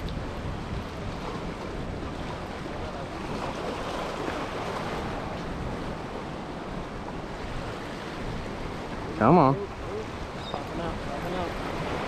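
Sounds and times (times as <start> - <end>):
sea waves washing against rocks: 0.0 - 12.0
wind on microphone: 0.0 - 12.0.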